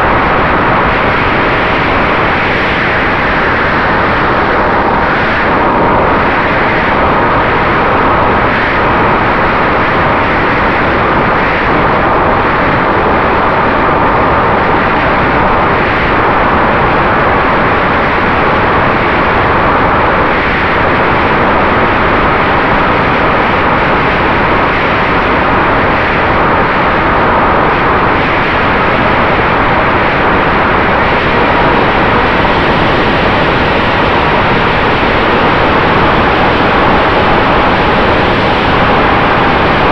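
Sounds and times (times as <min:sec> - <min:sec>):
faint steady whine: 0:00.0 - 0:39.9
wind rushing over microphone: 0:00.0 - 0:39.9.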